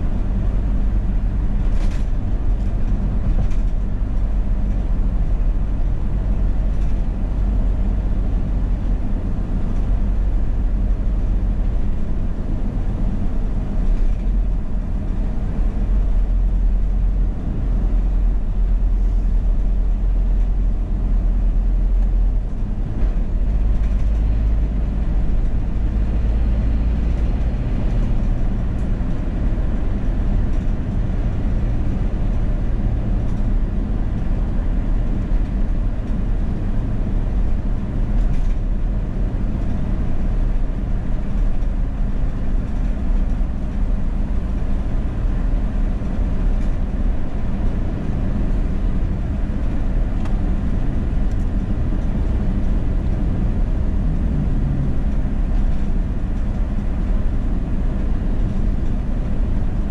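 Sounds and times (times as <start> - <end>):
car road and engine noise inside cabin: 0.0 - 59.9.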